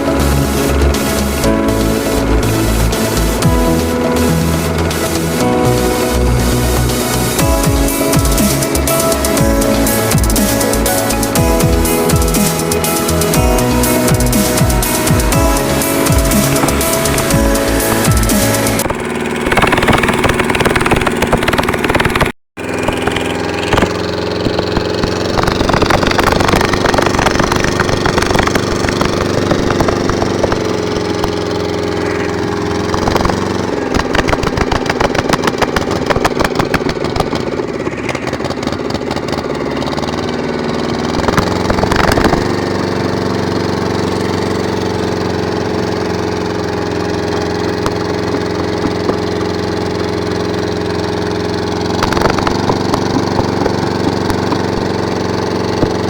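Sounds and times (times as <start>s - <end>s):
engine running steadily: 0.0s - 56.0s
rapid clicking rattle: 0.1s - 56.0s.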